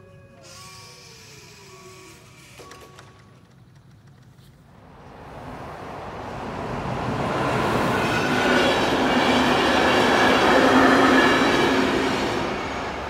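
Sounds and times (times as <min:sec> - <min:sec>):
wheel-on-rail noise: 0:00.2 - 0:13.0.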